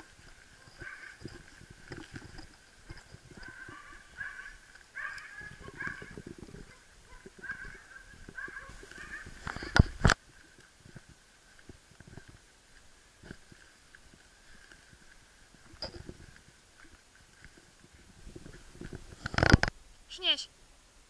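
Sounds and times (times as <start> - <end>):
faint scraping and clinking: 0.0 - 19.8.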